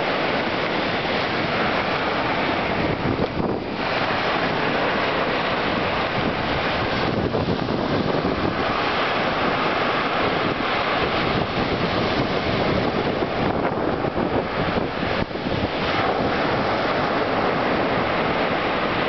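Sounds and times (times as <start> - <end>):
waves breaking on beach: 0.0 - 19.0
wind buffeting microphone: 0.0 - 19.0.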